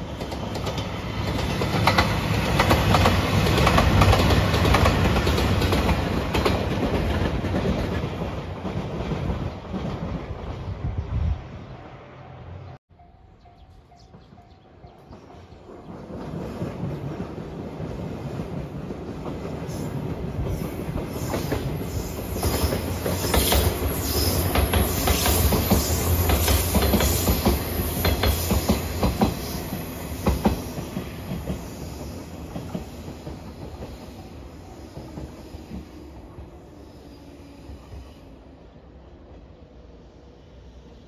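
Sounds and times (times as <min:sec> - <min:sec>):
electric train passing: 0:00.0 - 0:41.0.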